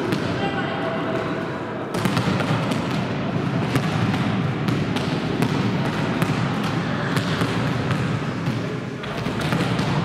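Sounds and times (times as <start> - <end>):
hubbub of voices: 0.0 - 4.7, 5.6 - 10.0
ball slaps and knocks: 1.9 - 10.0.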